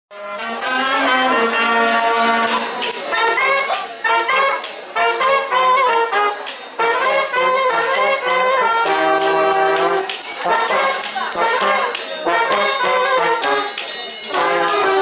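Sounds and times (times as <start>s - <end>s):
brass background music: 0.1s - 15.0s.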